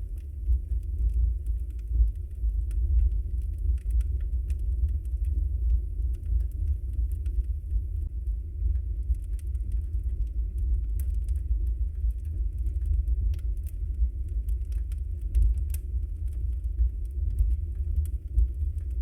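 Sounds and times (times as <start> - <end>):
logs crackling and popping: 0.0 - 19.0.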